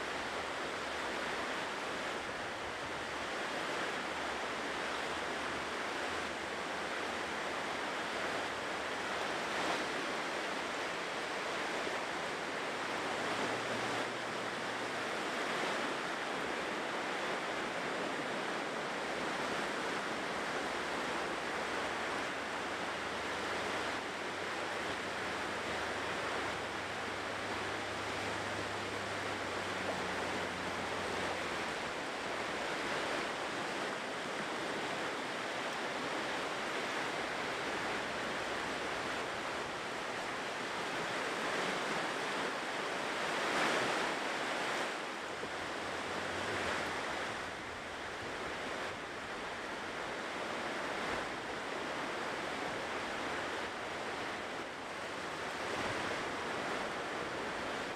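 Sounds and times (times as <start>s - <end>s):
ocean waves on shore: 0.0s - 57.9s.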